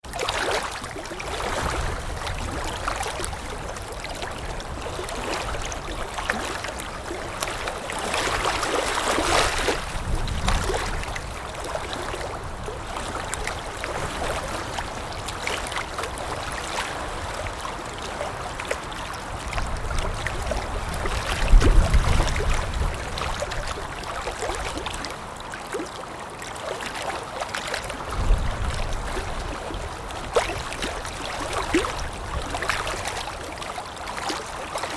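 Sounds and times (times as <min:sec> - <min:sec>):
water lapping and splashing: 0:00.0 - 0:34.9.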